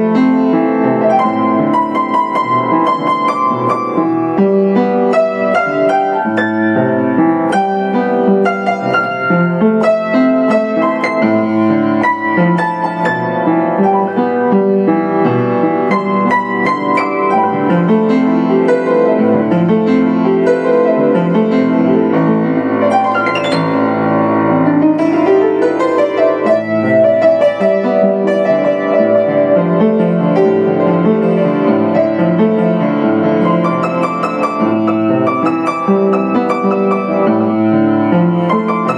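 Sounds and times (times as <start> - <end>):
upright piano playing: 0.0 - 38.9.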